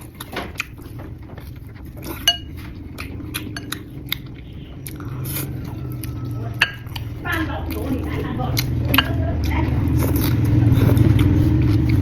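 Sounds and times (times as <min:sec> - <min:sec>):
utensils clinking against dishes: 0:00.0 - 0:12.0.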